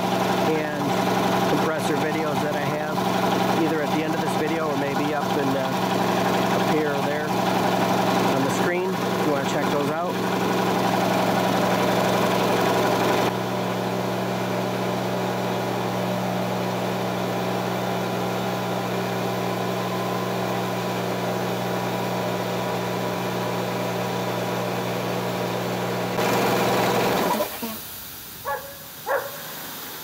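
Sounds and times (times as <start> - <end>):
electric air compressor running: 0.0 - 30.0.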